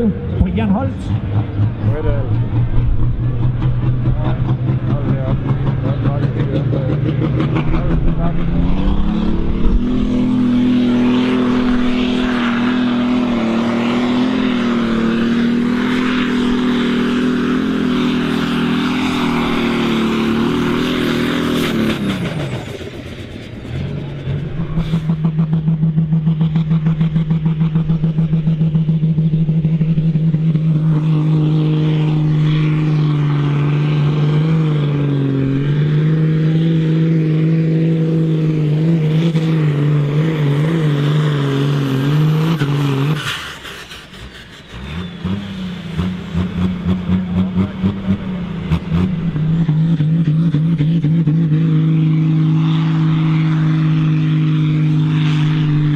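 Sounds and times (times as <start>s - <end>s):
high-revving tractor engine: 0.0s - 55.9s
low pulsing tractor engine: 0.0s - 55.9s.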